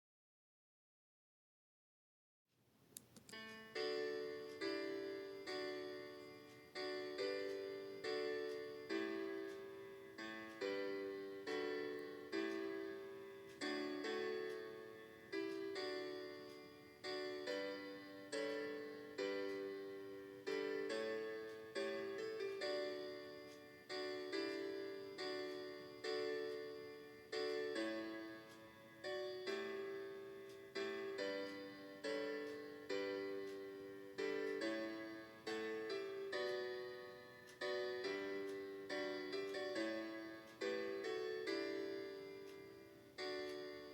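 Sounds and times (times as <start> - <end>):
piano playing hymn chords: 3.4 - 43.9.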